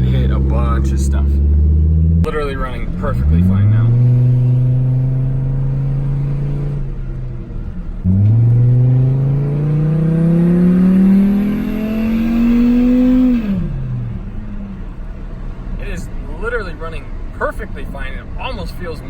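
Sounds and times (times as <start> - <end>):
pickup engine running under load: 0.0 - 19.0.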